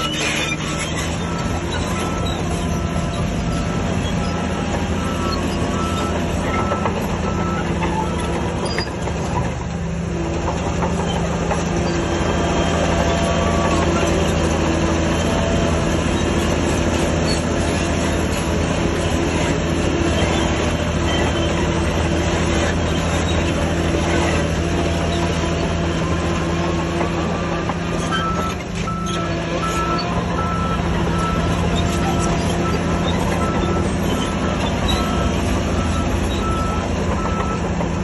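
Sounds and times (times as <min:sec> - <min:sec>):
heavy diesel machinery running: 0:00.0 - 0:38.0.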